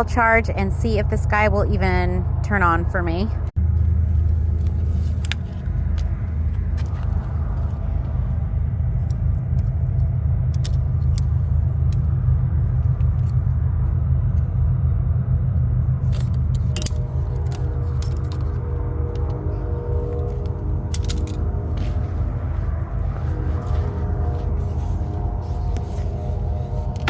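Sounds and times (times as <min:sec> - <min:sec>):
engine idling: 0:03.6 - 0:27.0.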